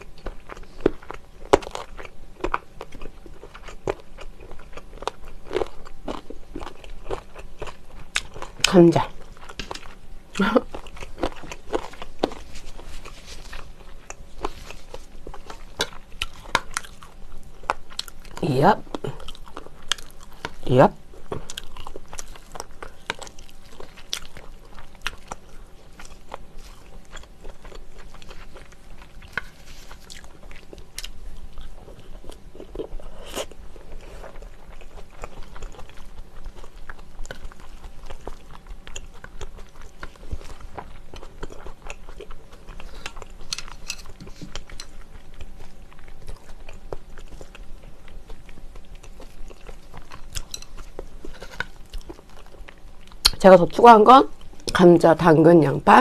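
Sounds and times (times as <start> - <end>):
close biting and chewing: 0.0 - 53.4.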